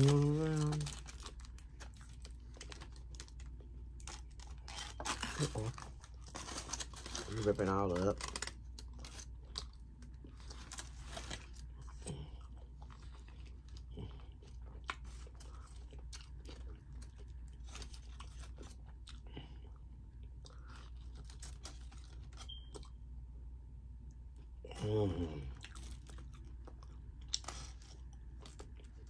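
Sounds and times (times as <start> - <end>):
person chewing crunchy food: 0.0 - 23.0, 24.3 - 29.0.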